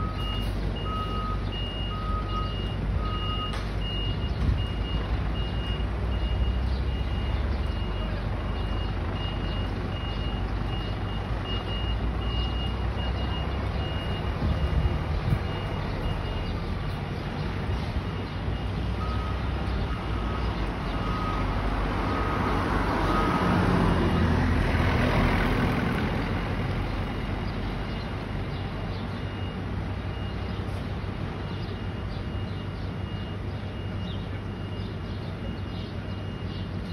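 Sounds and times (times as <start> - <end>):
reversing beeper: 0.0 - 16.7, 18.0 - 23.7, 29.2 - 36.9
diesel engine idling: 0.0 - 36.9.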